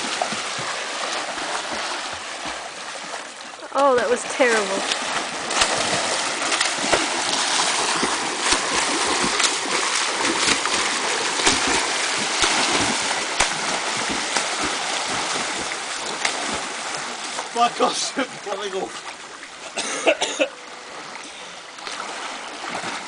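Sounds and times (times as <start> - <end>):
sharp water slaps: 0.0 - 19.2
swimmers splashing water: 0.0 - 23.0.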